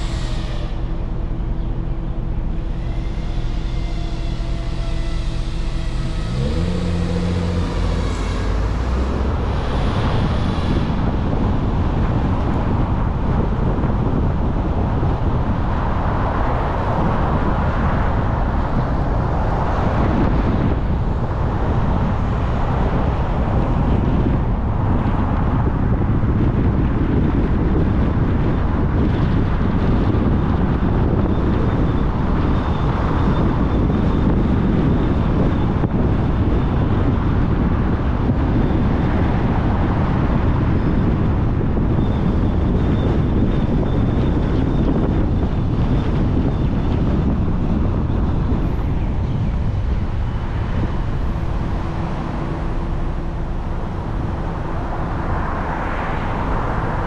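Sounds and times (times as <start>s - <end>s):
car road and wind rumble: 0.0s - 57.0s.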